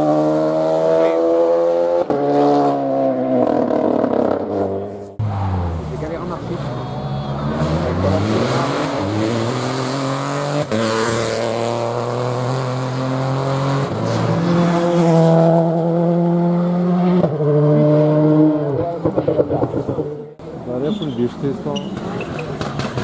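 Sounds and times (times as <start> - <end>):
rally car accelerating hard: 0.0 - 20.4.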